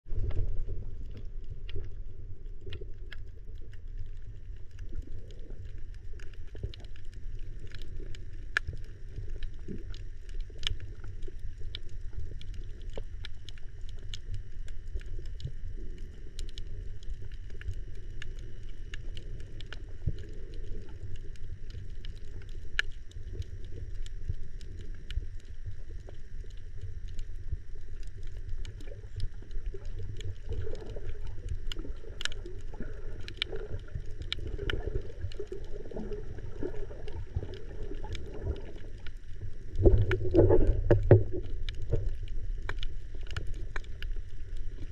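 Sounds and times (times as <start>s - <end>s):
muffled rumble of moving water: 0.0s - 44.9s
sharp clicks and crackles: 0.1s - 44.9s.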